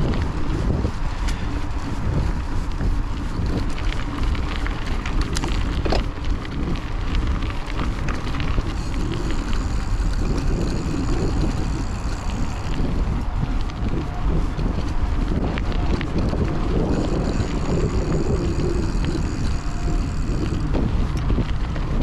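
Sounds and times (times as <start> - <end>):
bike clicks and rattles: 0.0 - 22.0
tyre noise on dirt: 0.0 - 22.0
wind buffeting microphone: 0.0 - 22.0.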